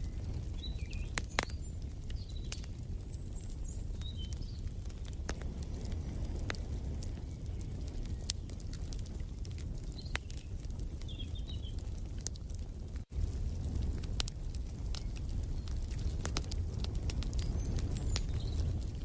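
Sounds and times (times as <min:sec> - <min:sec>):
small birds chirping: 0:00.0 - 0:12.3, 0:14.9 - 0:19.0
wood fire crackling: 0:00.0 - 0:19.0.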